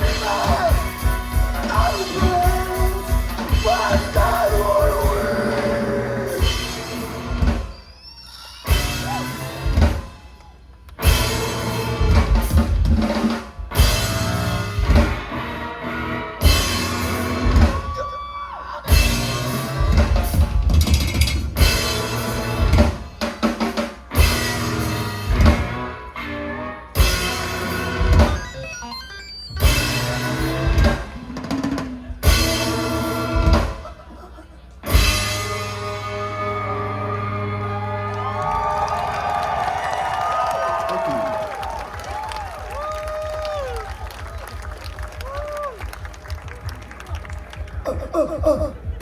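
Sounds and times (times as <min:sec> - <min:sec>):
heavy drum kit: 0:00.0 - 0:07.7, 0:08.7 - 0:10.3, 0:11.0 - 0:18.0, 0:18.9 - 0:26.1, 0:27.0 - 0:28.6, 0:29.6 - 0:34.1, 0:34.8 - 0:37.1, 0:41.0 - 0:49.0
live rock band playing: 0:00.0 - 0:40.0.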